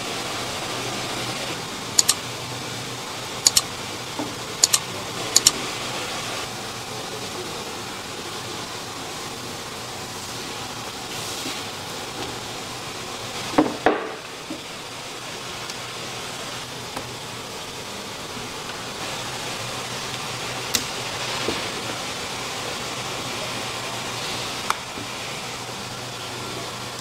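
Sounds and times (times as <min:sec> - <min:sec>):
steady hum and hiss: 0:00.0 - 0:27.0.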